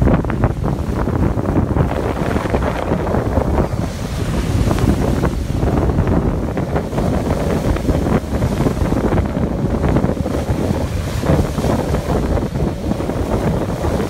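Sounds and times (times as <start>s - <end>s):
waves breaking on shore: 0.0s - 14.0s
wind buffeting microphone: 0.0s - 14.0s.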